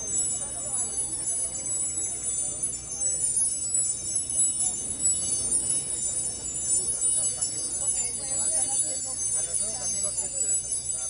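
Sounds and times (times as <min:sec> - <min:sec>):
high chime-like ringing: 0:00.0 - 0:11.0
instruments playing loosely: 0:00.0 - 0:11.0.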